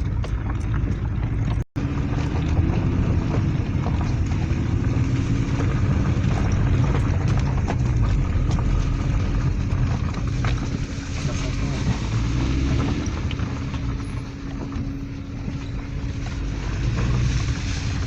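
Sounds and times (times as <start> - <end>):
car engine and tyre rumble: 0.0 - 18.0
clicks and knocks from road: 0.0 - 18.0.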